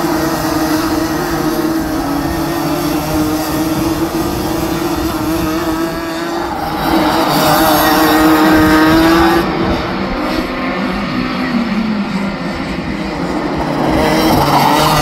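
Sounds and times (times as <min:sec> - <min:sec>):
racing kart engines buzzing: 0:00.0 - 0:15.0.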